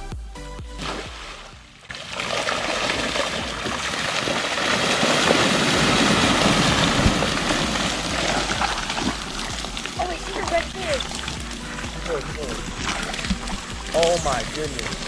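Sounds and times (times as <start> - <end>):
fish splashing in water: 0.8 - 15.0.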